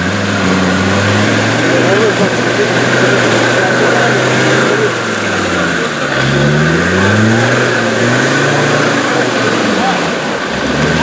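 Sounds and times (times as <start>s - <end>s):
diesel engine revving in mud: 0.0s - 11.0s.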